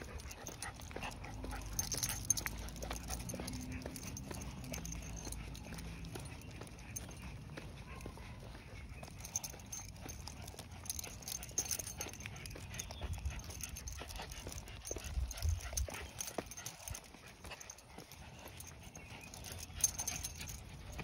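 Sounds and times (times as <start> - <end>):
dog footsteps clicking: 0.0 - 21.0.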